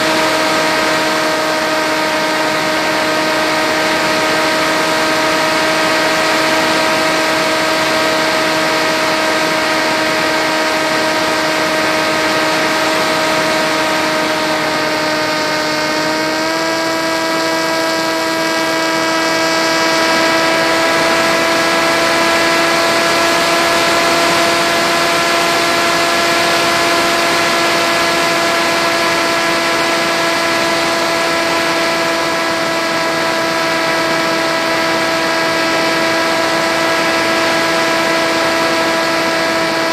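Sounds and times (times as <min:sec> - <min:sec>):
model plane electric motor: 0:00.0 - 0:39.9.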